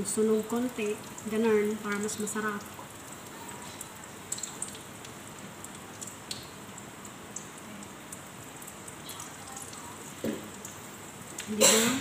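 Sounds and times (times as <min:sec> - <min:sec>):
omelette sizzling in pan: 0:00.0 - 0:12.0.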